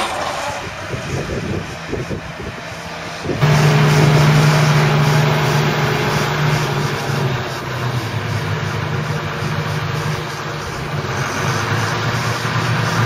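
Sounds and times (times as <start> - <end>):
tractor diesel engines running: 0.0 - 13.0.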